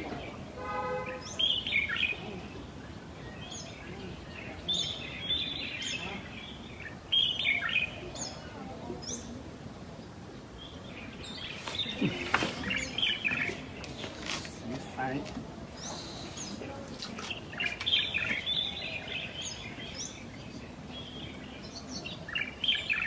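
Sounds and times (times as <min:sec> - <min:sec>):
outdoor background noise: 0:00.0 - 0:23.0
small birds chirping: 0:00.0 - 0:23.0.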